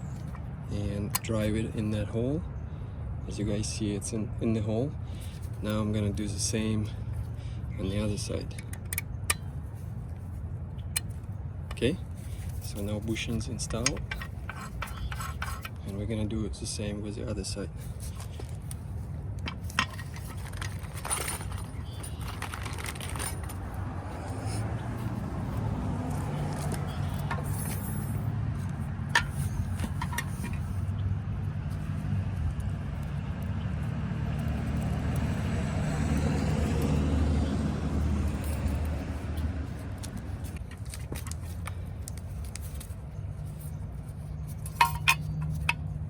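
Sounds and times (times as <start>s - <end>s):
vehicle engine rumbling: 0.0s - 46.0s
small metal parts clinking: 5.2s - 16.0s, 17.8s - 31.0s, 31.7s - 46.0s.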